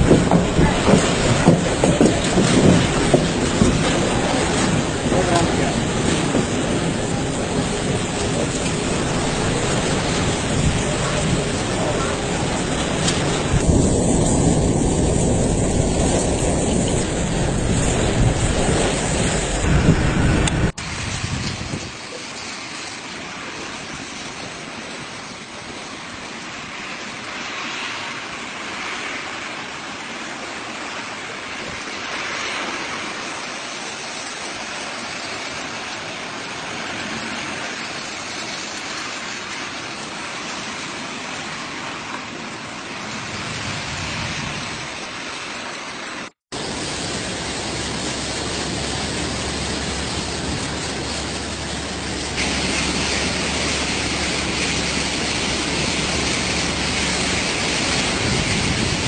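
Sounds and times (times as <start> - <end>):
cyclone wind: 0.0 - 59.0
heavy rain: 0.0 - 59.0.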